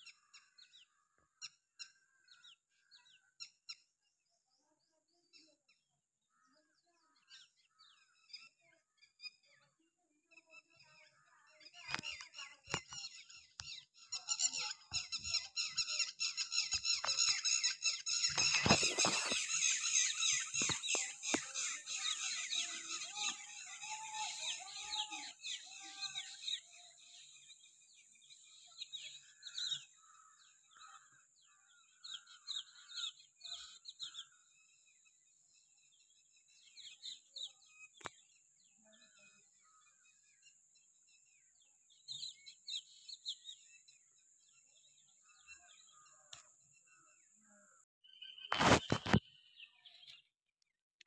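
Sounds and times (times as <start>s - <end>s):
small birds chirping: 0.0s - 50.4s.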